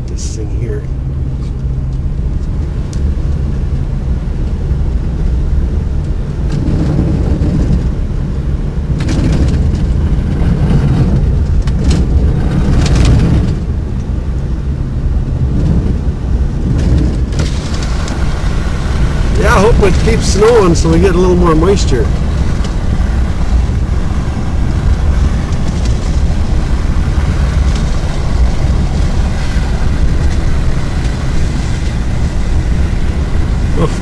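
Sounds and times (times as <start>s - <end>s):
vehicle engine and tyres rumbling: 0.0s - 34.0s.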